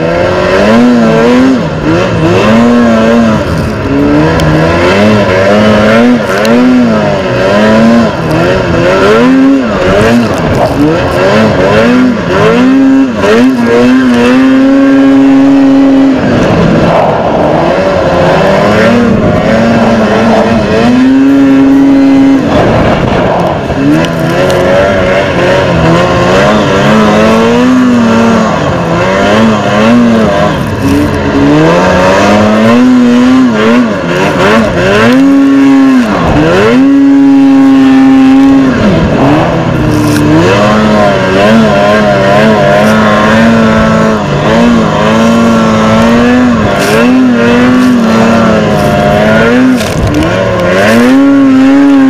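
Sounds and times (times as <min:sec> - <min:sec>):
snowmobile engine running hard: 0:00.0 - 0:52.0.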